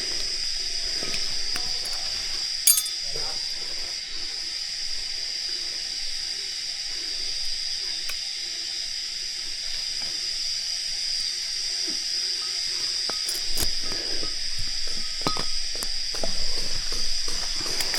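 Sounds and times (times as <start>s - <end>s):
cicadas droning: 0.0s - 17.9s.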